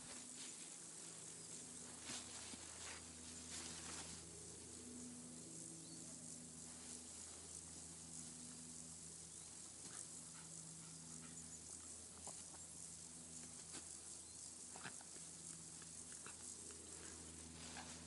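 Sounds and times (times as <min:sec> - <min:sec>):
faint outdoor hiss: 0:00.0 - 0:18.0
steady low hum: 0:00.0 - 0:18.0.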